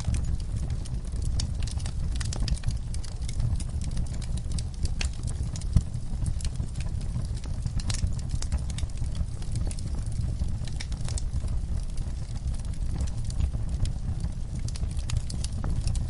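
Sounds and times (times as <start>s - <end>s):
wood fire crackling with pops: 0.0s - 16.0s.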